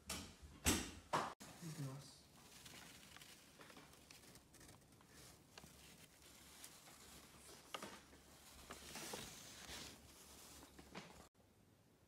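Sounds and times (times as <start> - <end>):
light handling rustling: 1.4 - 11.4.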